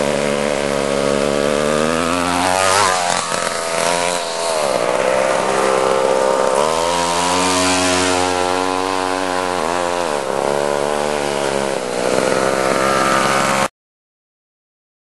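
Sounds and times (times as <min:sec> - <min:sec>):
kart engine at high revs: 0:00.0 - 0:13.7.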